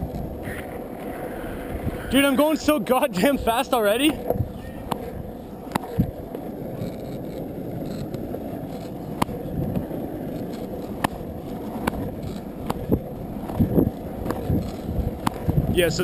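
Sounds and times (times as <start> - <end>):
skateboard wheels rumbling on pavement: 0.0 - 16.0.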